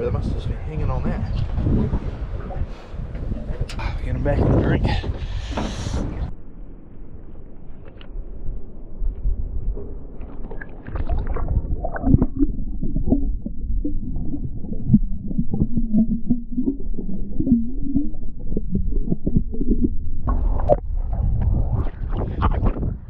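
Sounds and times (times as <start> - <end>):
water sloshing and gurgling underwater: 0.0 - 23.0
wavering low hum: 1.1 - 23.0.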